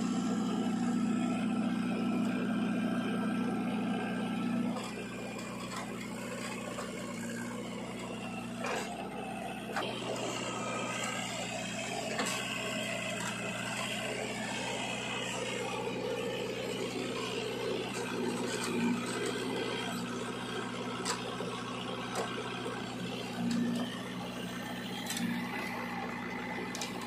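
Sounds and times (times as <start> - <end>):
diesel engines running: 0.0 - 27.0.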